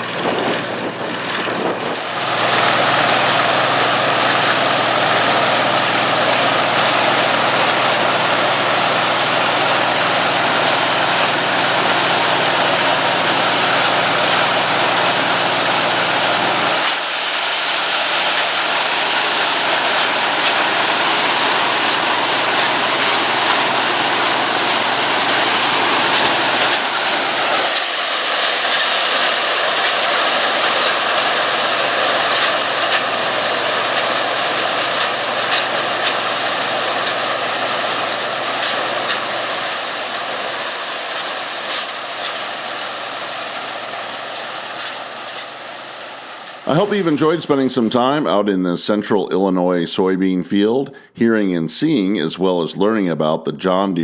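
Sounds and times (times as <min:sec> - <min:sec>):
combine engine drone: 0:00.0 - 0:48.0.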